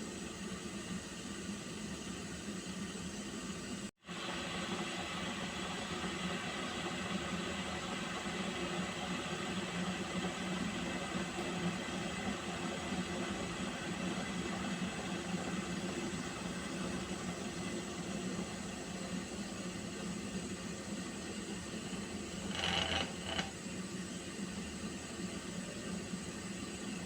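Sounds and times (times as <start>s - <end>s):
water heating hiss: 0.0s - 27.0s.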